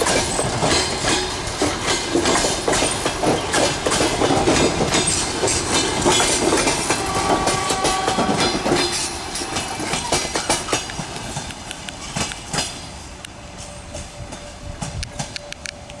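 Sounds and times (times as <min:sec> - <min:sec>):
train wheels clacking over rail joints: 0:00.0 - 0:13.0, 0:13.6 - 0:16.0.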